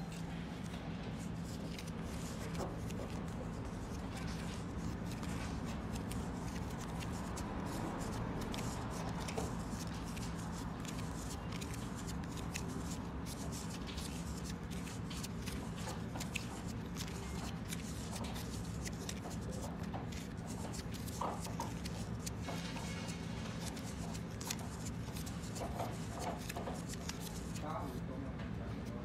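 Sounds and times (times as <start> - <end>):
tape rustling and clicking: 0.6 - 27.7.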